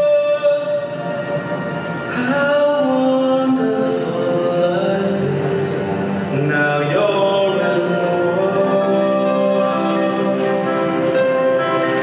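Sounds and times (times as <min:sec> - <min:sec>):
music over rink speakers: 0:00.0 - 0:12.0.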